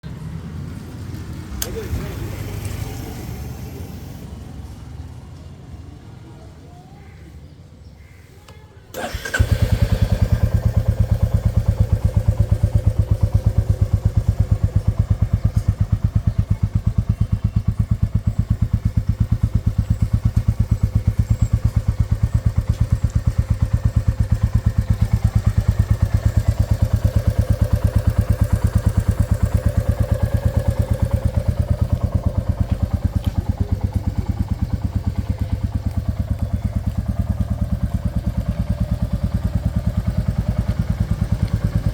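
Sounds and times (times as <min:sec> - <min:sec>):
motorcycle engine starting and idling: 0:00.1 - 0:05.8, 0:08.8 - 0:41.9.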